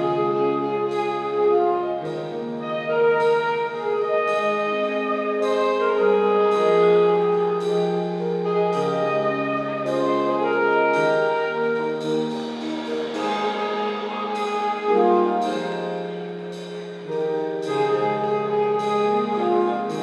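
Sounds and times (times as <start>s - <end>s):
slow orchestral music with brass: 0.0s - 20.0s.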